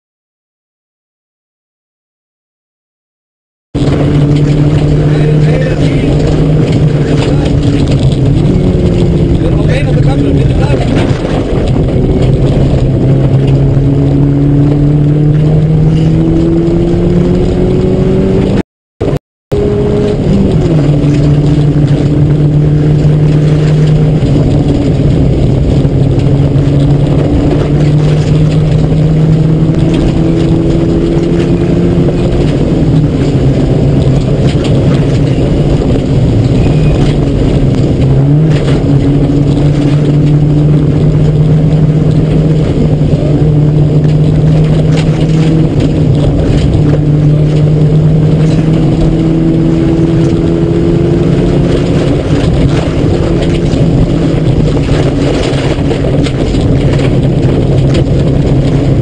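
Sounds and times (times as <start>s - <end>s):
rally car engine accelerating: 3.8s - 59.0s
road noise: 3.8s - 59.0s.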